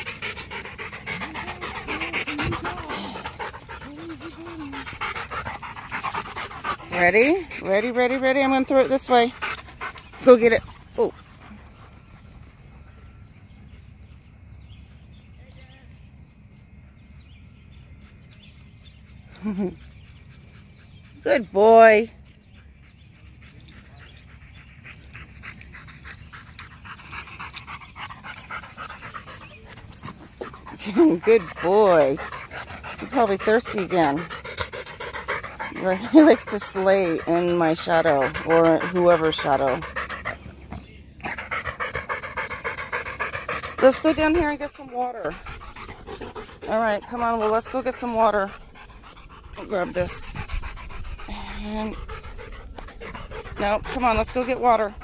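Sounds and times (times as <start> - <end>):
dog panting rapidly: 0.0 - 12.7, 19.0 - 55.0.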